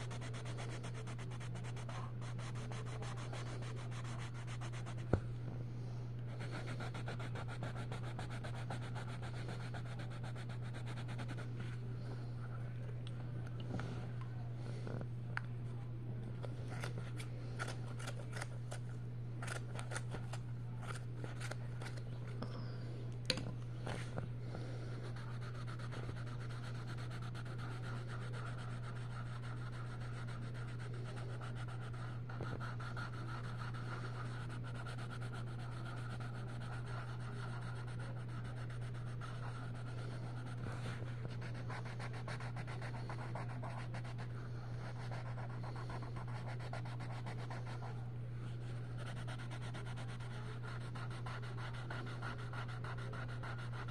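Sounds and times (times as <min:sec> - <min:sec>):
pencil scratching on paper: 0:00.0 - 0:05.2, 0:06.3 - 0:11.8, 0:16.6 - 0:18.5, 0:19.4 - 0:22.0, 0:23.9 - 0:53.9
steady low hum: 0:00.0 - 0:53.9.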